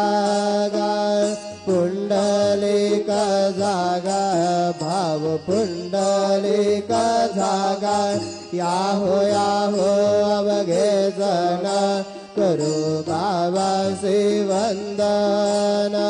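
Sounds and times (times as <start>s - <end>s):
person singing a hymn: 0.0s - 16.0s.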